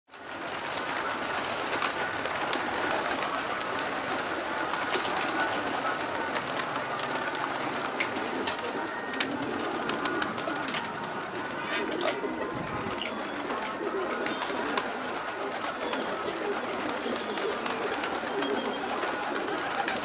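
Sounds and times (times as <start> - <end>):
pigeons cooing: 0.3 - 20.0
wing flaps: 0.4 - 20.0.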